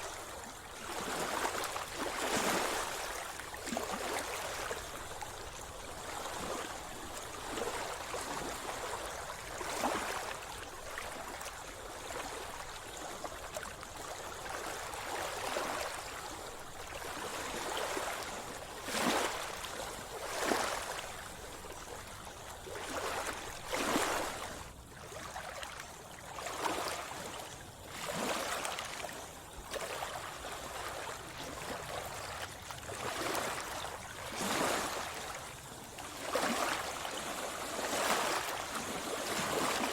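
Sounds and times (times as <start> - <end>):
sea water splashing and lapping: 0.0 - 39.9.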